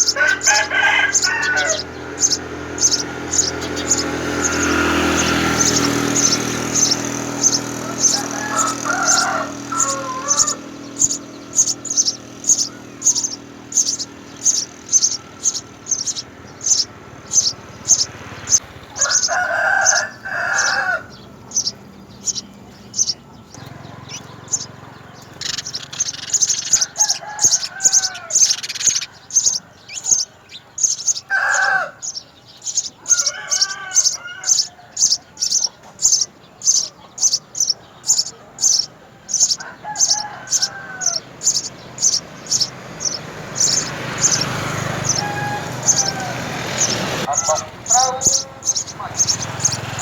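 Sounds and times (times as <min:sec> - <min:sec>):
lower bird call: 0:00.0 - 0:50.0
sparrows chirping: 0:00.0 - 0:50.0.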